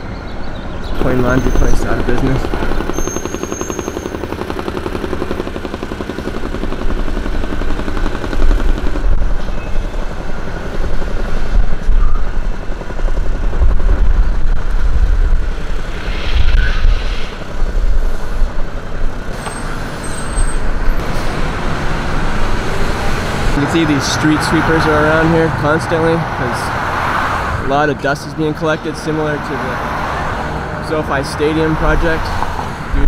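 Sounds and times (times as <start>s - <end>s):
engines and tyres rumbling: 0.0s - 33.0s.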